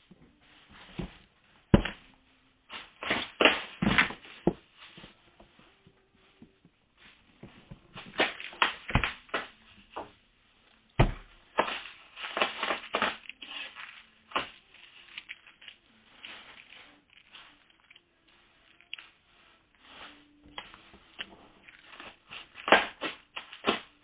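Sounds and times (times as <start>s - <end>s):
packaging rustling and scraping: 0.3s - 10.9s, 11.5s - 24.0s.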